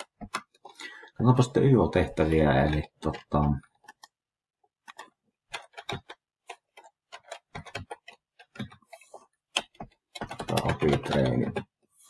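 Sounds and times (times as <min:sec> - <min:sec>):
computer keyboard typing: 0:02.0 - 0:11.7.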